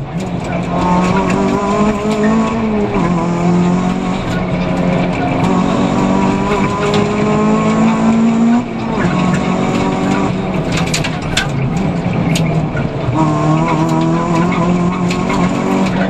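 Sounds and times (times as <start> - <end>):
rally car engine revving: 0.0 - 16.0
sharp clicks and knocks: 0.0 - 16.0.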